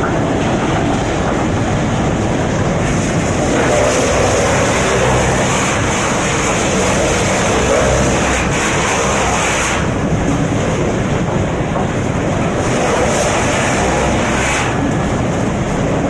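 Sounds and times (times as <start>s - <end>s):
wood chipper running: 1.3s - 16.0s.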